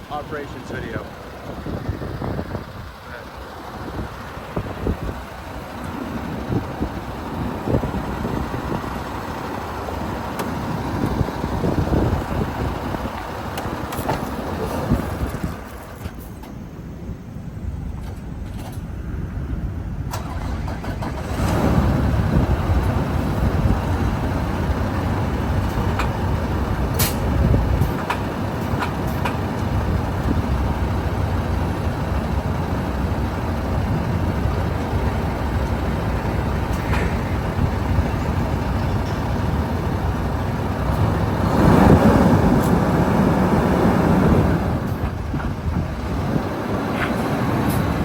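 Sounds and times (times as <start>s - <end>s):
diesel truck engine rumble: 0.0s - 48.0s
road noise: 0.0s - 48.0s.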